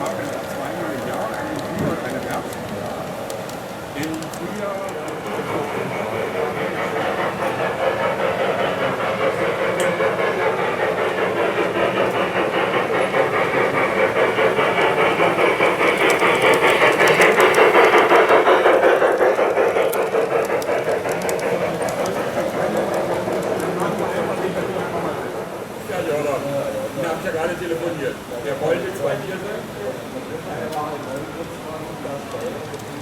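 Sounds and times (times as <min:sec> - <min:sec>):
model train clattering: 0:00.0 - 0:33.0.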